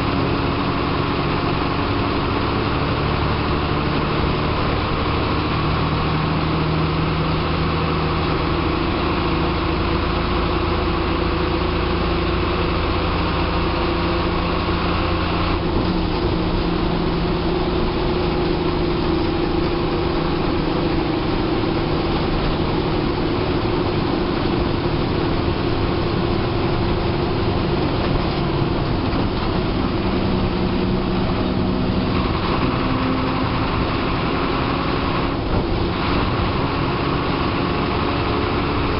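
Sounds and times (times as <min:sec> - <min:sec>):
bus diesel engine running: 0:00.0 - 0:38.9
road noise: 0:00.0 - 0:38.9.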